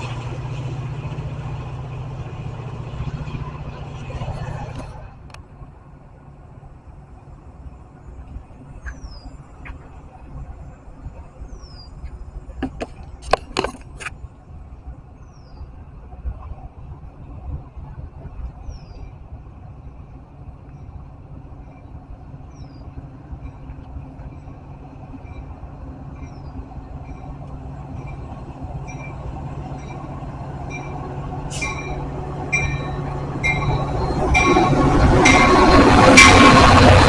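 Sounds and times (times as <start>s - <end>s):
diesel locomotive hum: 0.0s - 37.0s.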